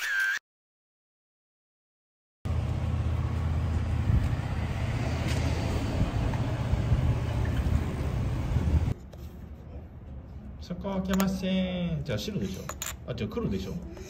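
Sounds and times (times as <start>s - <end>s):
low rumble of street noise: 2.5s - 14.0s.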